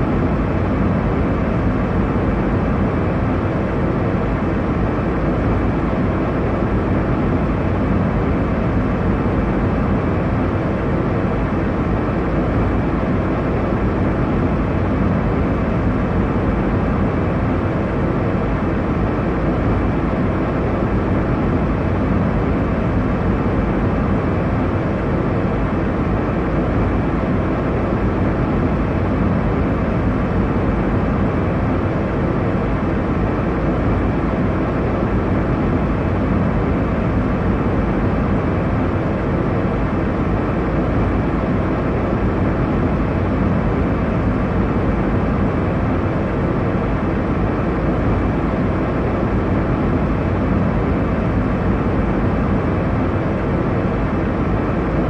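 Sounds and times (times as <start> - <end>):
airliner cabin engine noise: 0.0 - 55.0.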